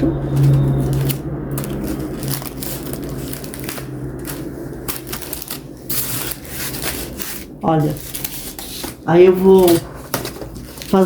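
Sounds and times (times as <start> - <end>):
cardboard rustling and crinkling: 0.0 - 11.0
steady low hum: 0.0 - 11.0.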